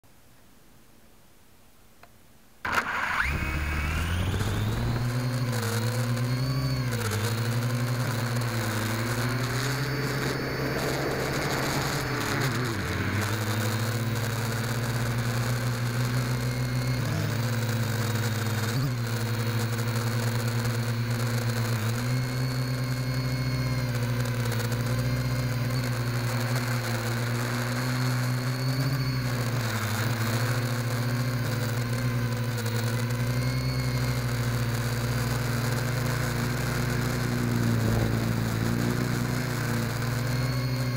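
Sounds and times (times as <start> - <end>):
quadcopter propellers whirring: 2.7 - 40.9.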